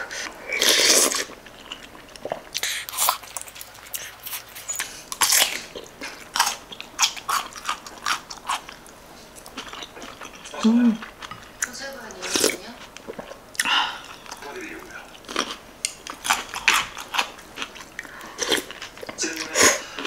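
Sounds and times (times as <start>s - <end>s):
close eating and chewing: 0.0s - 20.0s.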